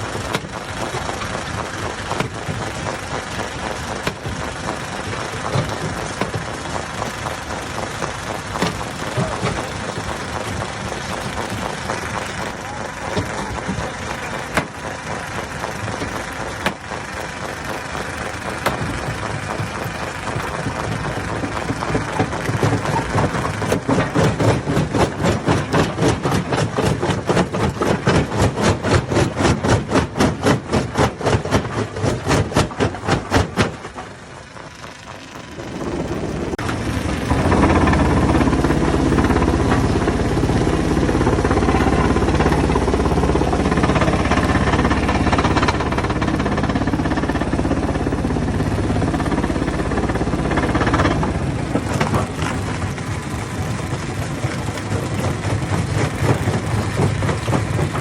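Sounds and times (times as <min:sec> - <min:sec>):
stone crusher machinery running: 0:00.0 - 0:58.0.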